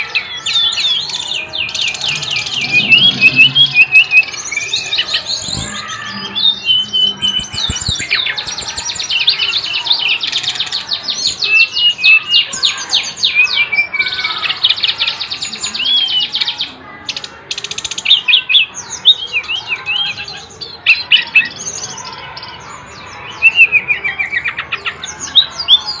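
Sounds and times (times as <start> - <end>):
bird singing trills and whistles: 0.0 - 26.0.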